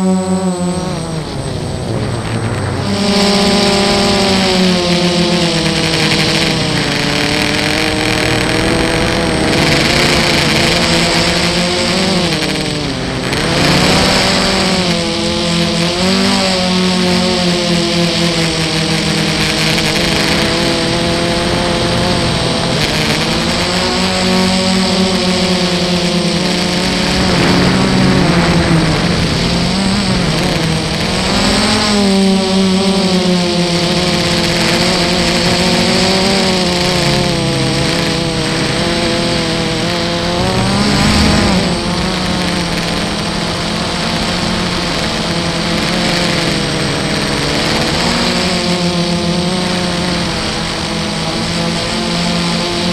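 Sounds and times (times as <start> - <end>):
drone motors and propellers whining: 0.0 - 52.9.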